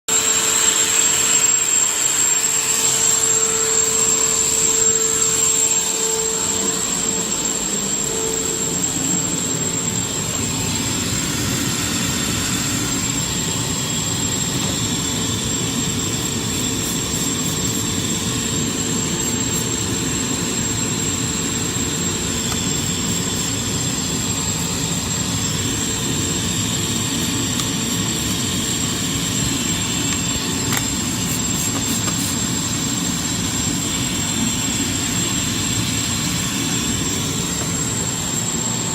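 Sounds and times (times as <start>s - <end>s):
shop vacuum blowing: 0.1s - 38.9s.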